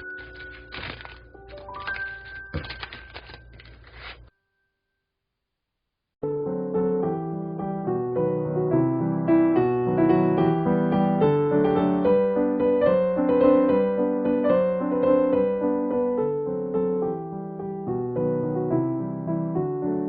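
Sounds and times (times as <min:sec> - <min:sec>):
gentle piano melody: 0:00.0 - 0:03.8, 0:06.2 - 0:20.0.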